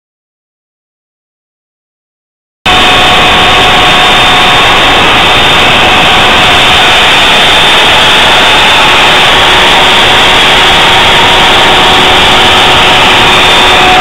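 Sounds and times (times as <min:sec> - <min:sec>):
router spindle cutting: 0:02.7 - 0:14.0.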